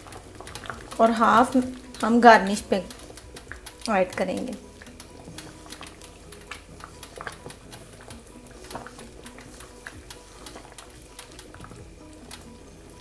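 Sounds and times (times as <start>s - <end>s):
quiet background music: 0.0s - 13.0s
wooden spatula stirring thick mixture: 0.0s - 13.0s.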